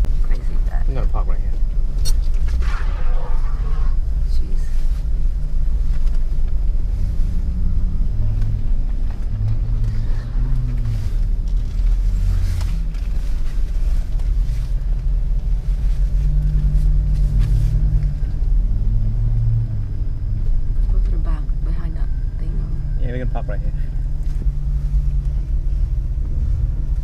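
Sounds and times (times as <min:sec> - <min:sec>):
car engine running slowly: 0:00.0 - 0:27.0.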